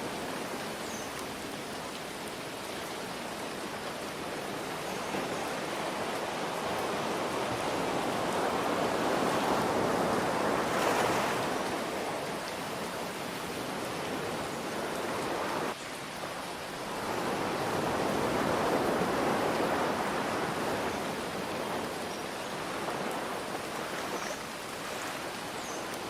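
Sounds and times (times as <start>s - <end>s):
ocean surf: 0.0s - 26.0s.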